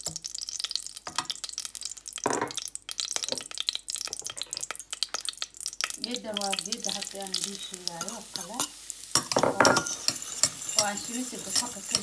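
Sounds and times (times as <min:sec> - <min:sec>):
butter sizzling and crackling: 0:00.0 - 0:12.0.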